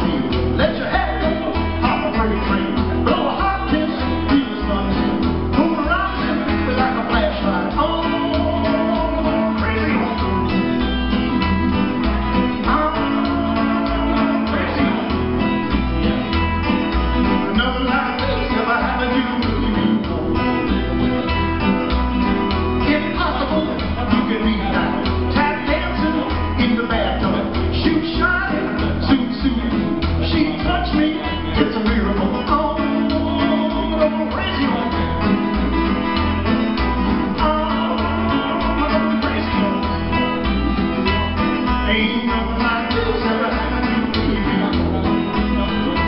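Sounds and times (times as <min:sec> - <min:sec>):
acoustic guitar: 0:00.0 - 0:46.0
electric guitar: 0:00.0 - 0:46.0
steady beat: 0:00.0 - 0:46.0
upright bass: 0:00.0 - 0:46.0.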